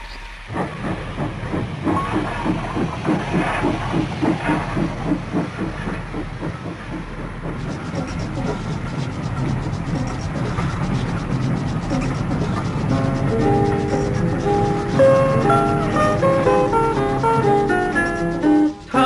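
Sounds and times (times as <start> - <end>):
steam hissing: 0.0 - 19.0
steam locomotive chuffing: 0.0 - 19.0.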